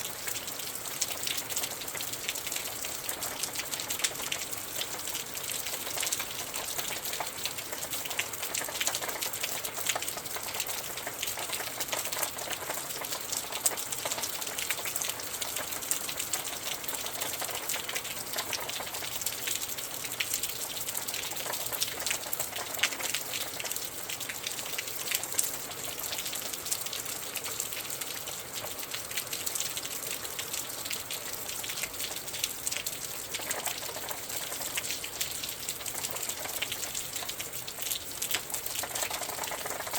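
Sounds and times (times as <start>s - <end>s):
steady rain patter: 0.0s - 39.9s
wind: 0.0s - 39.9s.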